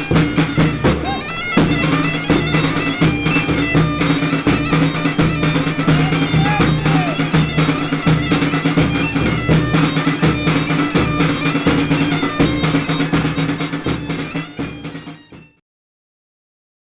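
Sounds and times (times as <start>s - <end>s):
drum beat: 0.0s - 15.5s
bagpipe playing folk melody: 0.0s - 15.6s.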